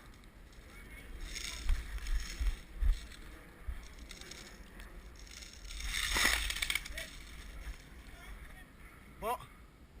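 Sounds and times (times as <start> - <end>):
rustling and crunching of gear: 0.0 - 8.5
low wind rumble: 0.0 - 10.0.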